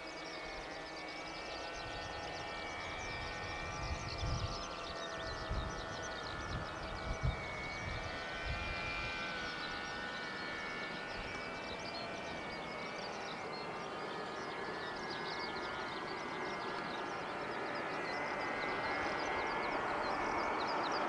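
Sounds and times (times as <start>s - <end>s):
turboprop engines humming: 0.0s - 21.0s.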